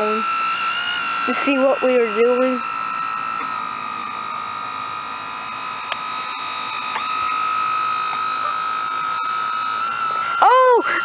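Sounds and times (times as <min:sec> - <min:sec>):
electric motor whine: 0:00.0 - 0:11.0.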